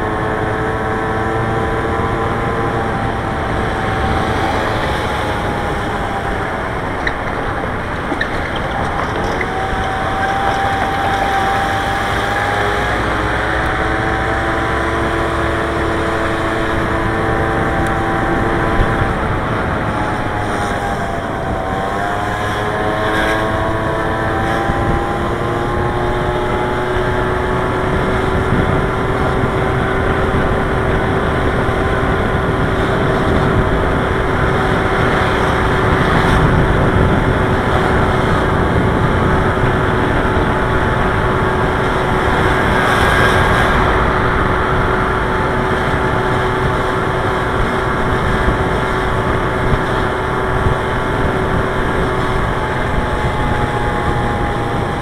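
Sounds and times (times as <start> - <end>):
road and wind rumble: 0.0 - 55.0
vehicle engine running: 0.0 - 55.0.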